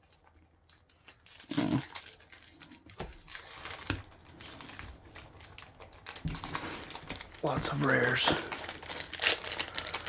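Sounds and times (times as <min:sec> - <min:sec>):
trading cards rustling: 0:00.0 - 0:10.0.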